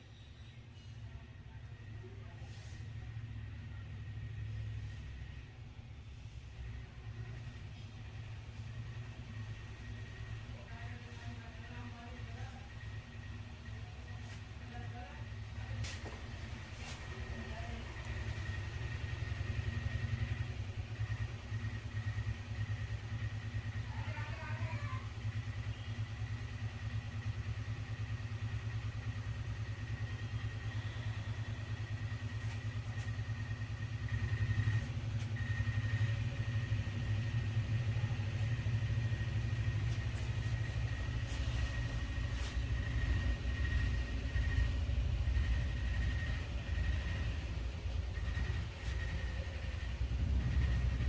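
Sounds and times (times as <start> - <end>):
motor humming with high whine: 2.9 - 51.0.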